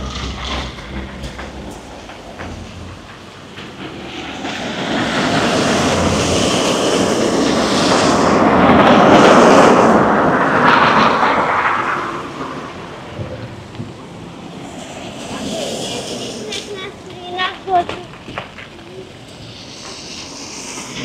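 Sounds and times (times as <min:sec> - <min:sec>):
vehicle passing close by: 0:00.0 - 0:16.8.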